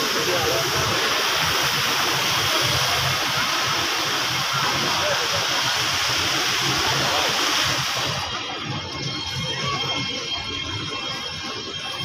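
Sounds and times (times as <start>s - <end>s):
crowd hiss: 0.0s - 12.0s
faint voices: 0.0s - 12.0s.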